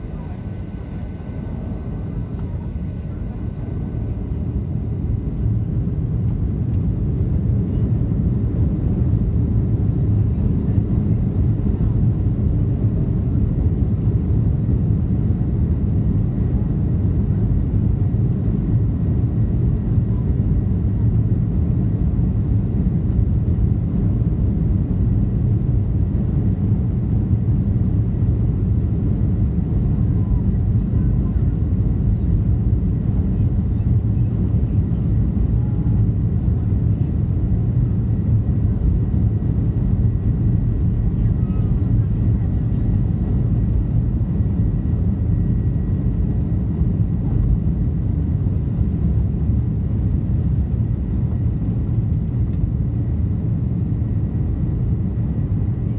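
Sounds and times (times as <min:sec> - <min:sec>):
jet engine and wheels rumble: 0:00.0 - 0:55.9.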